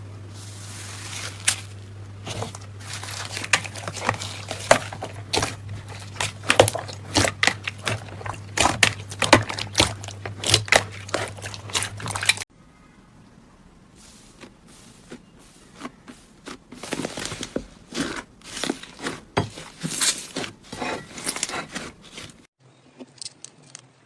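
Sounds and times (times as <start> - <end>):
steady low hum: 0.0 - 22.5.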